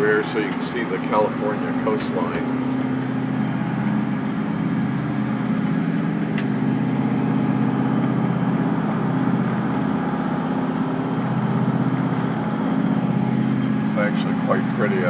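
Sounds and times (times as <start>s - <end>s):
boat diesel engine droning: 0.0s - 15.0s.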